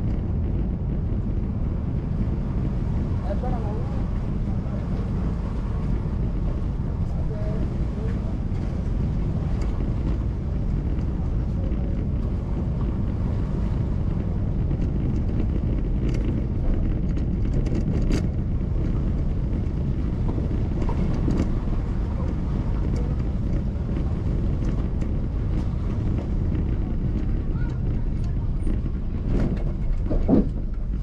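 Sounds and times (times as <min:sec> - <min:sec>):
car driving rumble: 0:00.0 - 0:31.0
wind buffeting microphone: 0:00.0 - 0:31.0.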